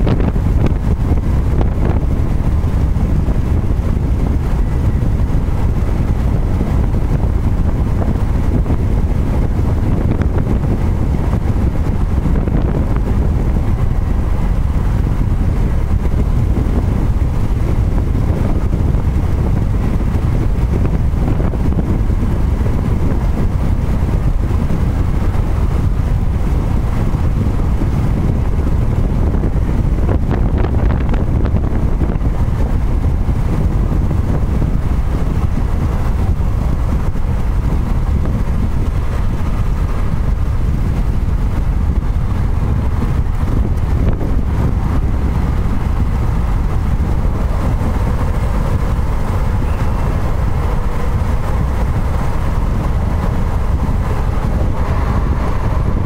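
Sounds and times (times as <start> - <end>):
car road noise: 0.0 - 56.0
wind buffeting microphone: 0.0 - 56.0.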